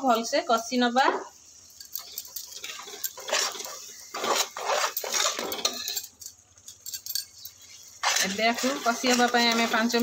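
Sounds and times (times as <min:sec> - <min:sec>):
metal spatula scraping a pot: 0:01.8 - 0:10.0.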